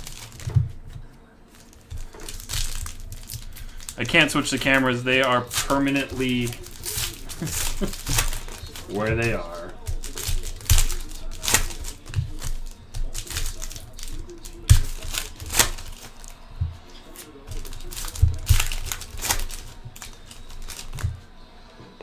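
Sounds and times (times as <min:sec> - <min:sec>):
wrappers crinkling and tearing: 0:00.0 - 0:21.7.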